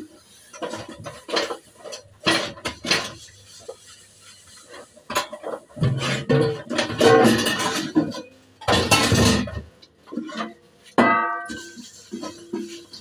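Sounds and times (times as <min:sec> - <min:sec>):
metal pots clanking: 0:00.0 - 0:13.0.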